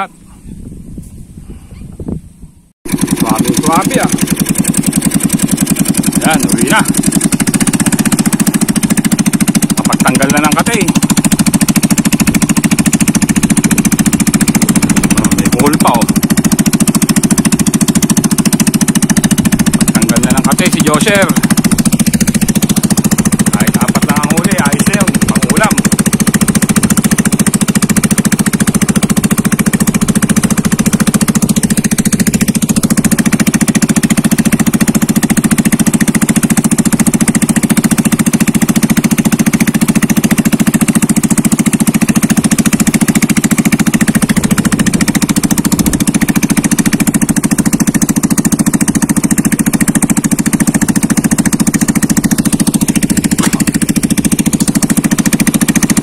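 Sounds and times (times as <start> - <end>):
boat motor droning: 0.0 - 0.7, 2.8 - 56.0.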